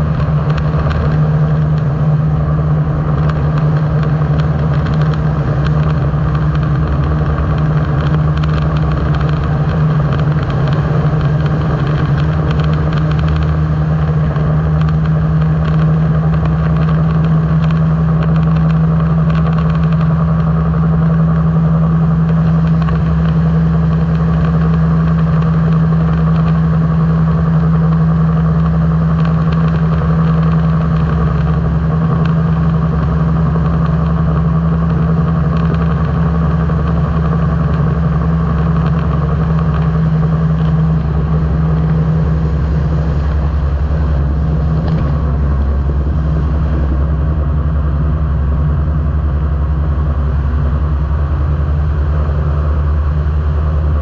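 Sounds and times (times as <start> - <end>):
microlight engine and propeller drone: 0.0 - 54.0.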